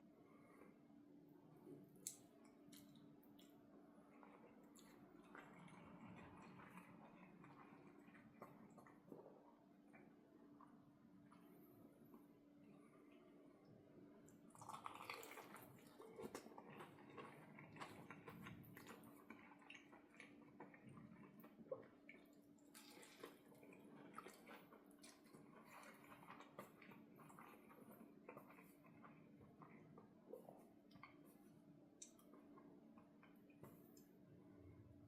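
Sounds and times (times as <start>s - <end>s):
chewing with wet clicks: 2.0s - 11.5s, 12.6s - 34.2s.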